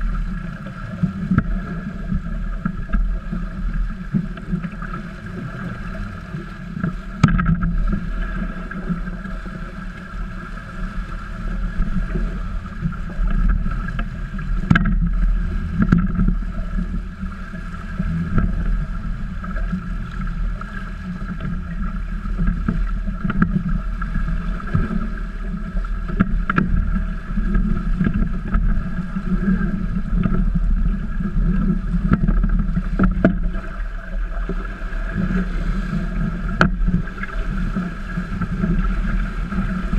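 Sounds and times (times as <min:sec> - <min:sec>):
water rushing along hulls: 0:00.0 - 0:39.9
wind on microphone: 0:00.0 - 0:39.9.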